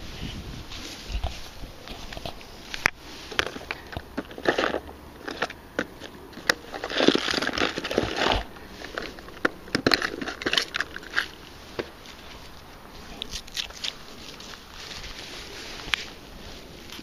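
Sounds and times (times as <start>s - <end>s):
rustling and crinkling of tackle: 0.0s - 17.0s.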